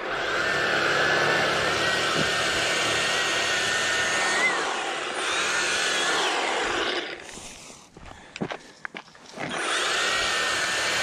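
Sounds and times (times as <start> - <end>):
power brush whirring with motor whine: 0.0 - 7.5, 9.3 - 11.0.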